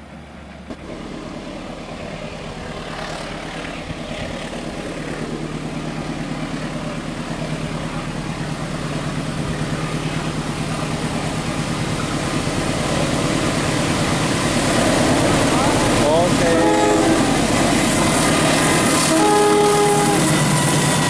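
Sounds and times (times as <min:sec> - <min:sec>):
diesel locomotive engine droning: 0:00.0 - 0:21.0.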